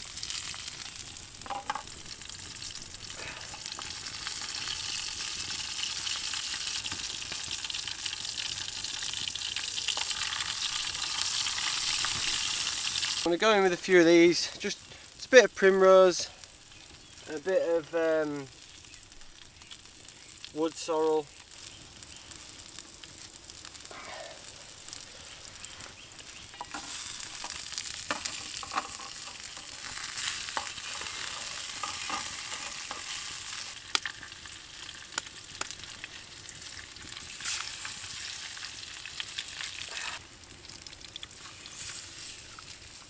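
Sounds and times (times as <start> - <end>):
food sizzling in a frying pan: 0.0 - 43.0.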